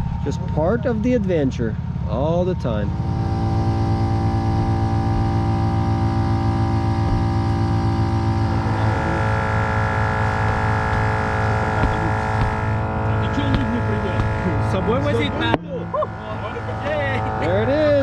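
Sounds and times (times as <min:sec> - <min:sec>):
motor running steadily: 0:00.0 - 0:18.0.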